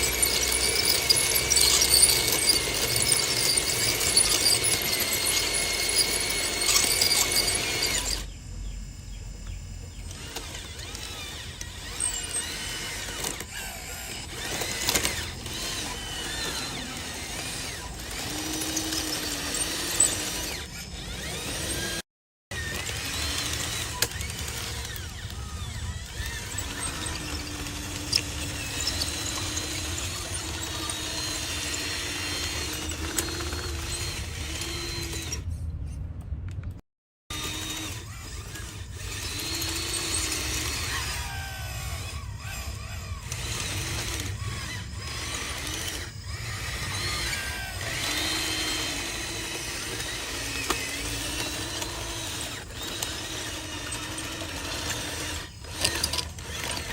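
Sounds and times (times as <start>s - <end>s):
electric motors whining: 0.0s - 35.6s, 37.3s - 56.9s.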